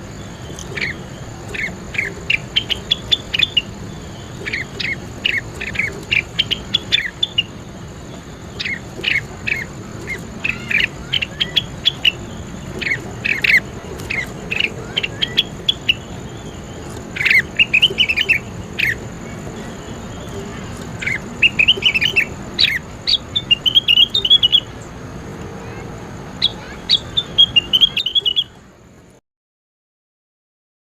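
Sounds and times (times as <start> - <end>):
background hiss: 0.0 - 29.2
songbird chirping and trilling: 0.0 - 29.2.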